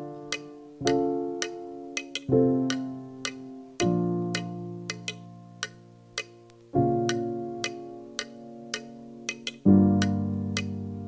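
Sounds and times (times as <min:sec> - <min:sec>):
light ticking beat: 0:00.0 - 0:11.0
sustained keyboard chords: 0:00.0 - 0:11.0.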